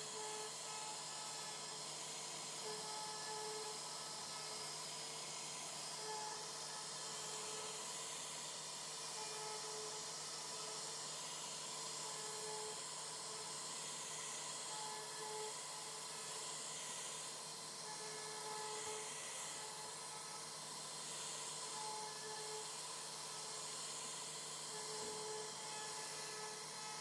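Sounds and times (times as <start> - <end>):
router spindle carving wood: 0.0 - 27.0.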